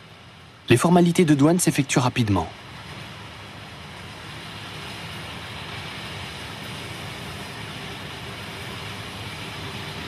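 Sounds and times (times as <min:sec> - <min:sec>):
vehicle running rumble and hiss: 0:00.0 - 0:10.0.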